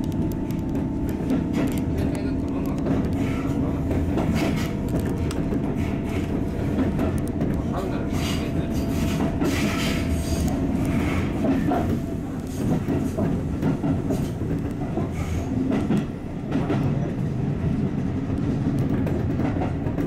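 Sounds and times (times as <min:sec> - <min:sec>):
wheels clicking over rail joints: 0:00.0 - 0:17.0
train wheels and motors rumbling: 0:00.0 - 0:20.0.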